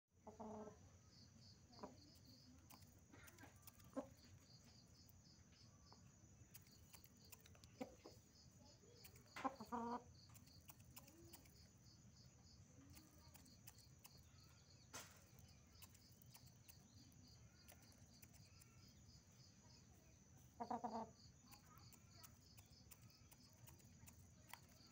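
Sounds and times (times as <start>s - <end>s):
chickens clucking: 0.2s - 0.8s, 1.7s - 24.9s.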